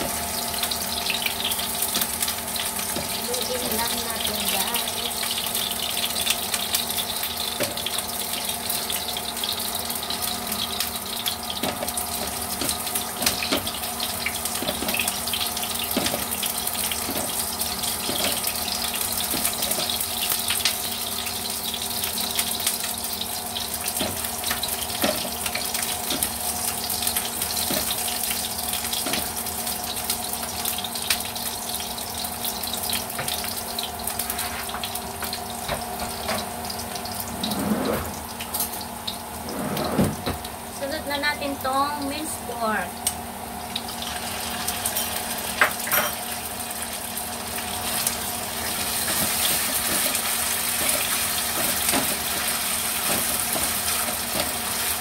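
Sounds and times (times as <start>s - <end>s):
oil crackling and popping: 0.0s - 37.3s, 43.0s - 55.0s
onion sizzling in hot oil: 0.0s - 55.0s.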